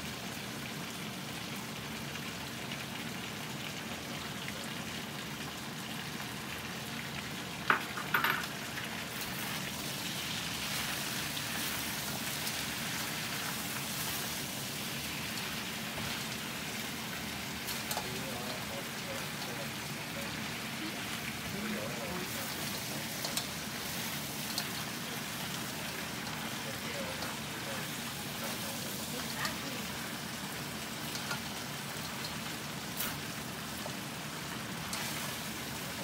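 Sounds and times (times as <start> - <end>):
seafood sizzling in a wok: 0.0 - 36.0.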